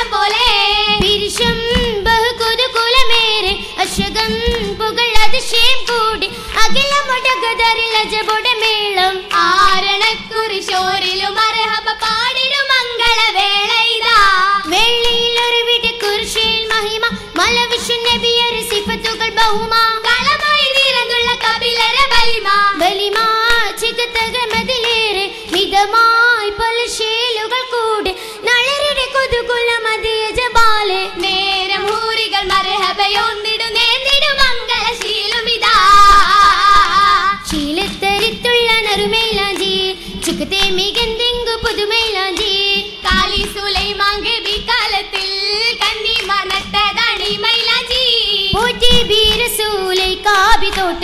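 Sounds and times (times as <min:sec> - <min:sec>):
girls singing: 0:00.0 - 0:51.0
rhythmic hand claps: 0:00.0 - 0:51.0.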